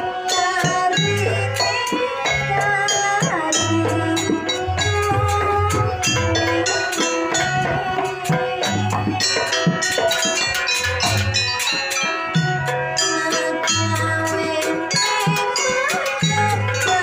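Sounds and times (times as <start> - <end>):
drums and metal percussion music: 0.0 - 17.0.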